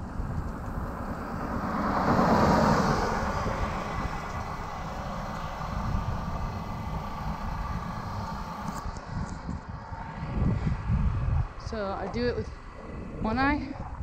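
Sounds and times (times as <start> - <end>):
car passing by: 0.0 - 14.0
steady low rumble: 0.0 - 14.0.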